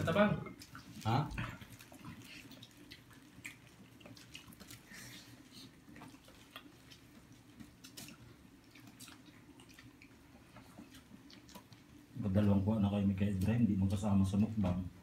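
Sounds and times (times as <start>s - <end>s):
chewing: 0.0s - 12.2s
low steady hum: 0.0s - 15.0s
soft wet squishes of hands: 0.0s - 15.0s.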